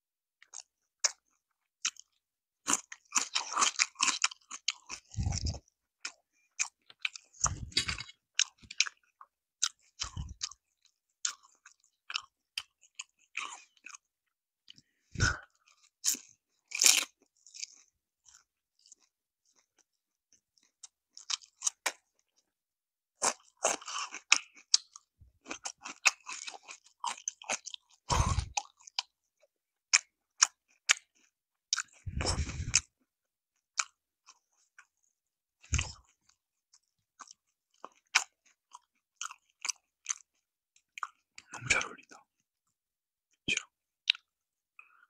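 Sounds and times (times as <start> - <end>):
chewing crispy fried chicken: 0.4 - 45.0.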